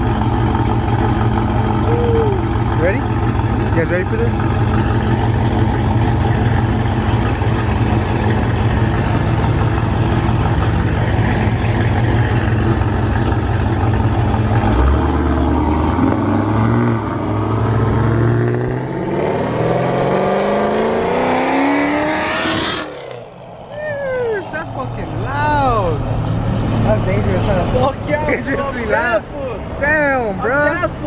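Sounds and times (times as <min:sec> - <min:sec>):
loud choppy car engine: 0:00.0 - 0:31.0.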